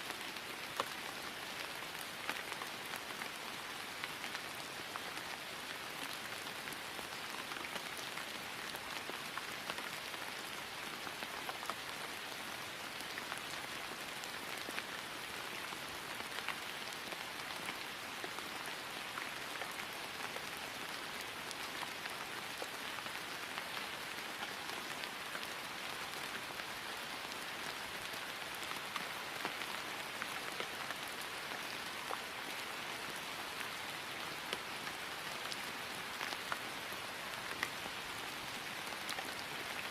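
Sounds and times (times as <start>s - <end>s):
rain falling on grass: 0.0s - 39.9s.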